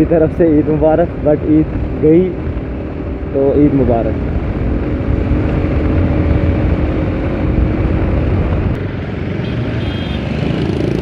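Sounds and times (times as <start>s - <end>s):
wind rumble on microphone: 0.0s - 9.2s
motorcycle engine cruising: 0.0s - 11.0s.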